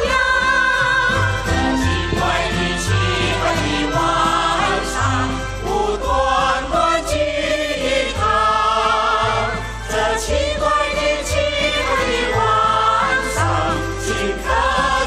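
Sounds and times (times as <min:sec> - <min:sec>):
group singing into microphones: 0:00.0 - 0:15.0
instrumental accompaniment: 0:00.0 - 0:15.0.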